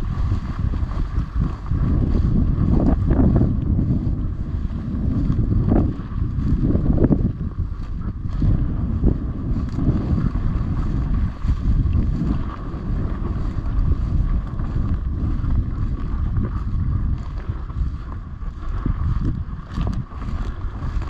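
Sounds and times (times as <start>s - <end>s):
wind buffeting the microphone: 0.0s - 21.0s.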